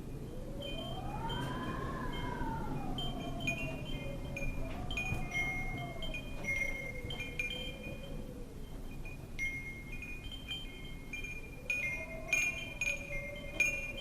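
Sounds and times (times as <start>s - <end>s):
low rushing wind: 0.0s - 14.0s
wind chimes ringing: 0.0s - 14.0s
wind whistling: 0.0s - 14.0s.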